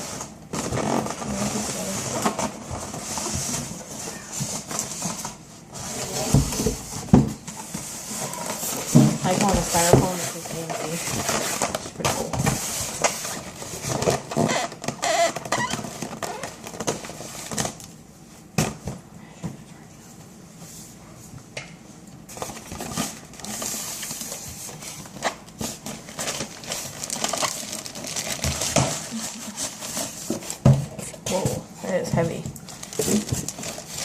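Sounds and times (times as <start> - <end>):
styrofoam and cardboard rustling: 0.0 - 19.0, 22.2 - 34.0.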